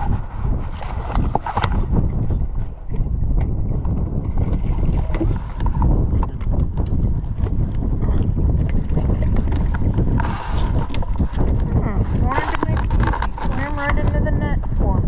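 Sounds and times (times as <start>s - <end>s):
low rumble: 0.0s - 15.0s
water splashing against boat: 0.0s - 15.0s
wind buffeting microphone: 0.0s - 15.0s.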